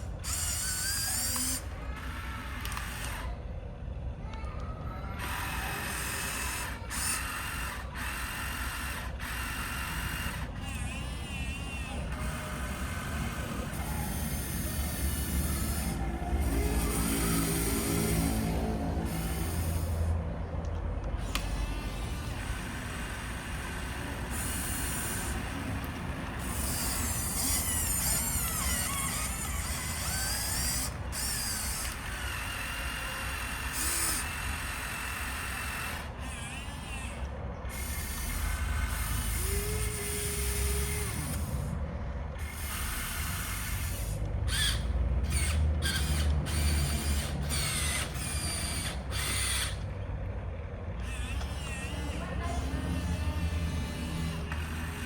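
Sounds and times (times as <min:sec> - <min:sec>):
toy electric motors whining: 0:00.0 - 0:55.0.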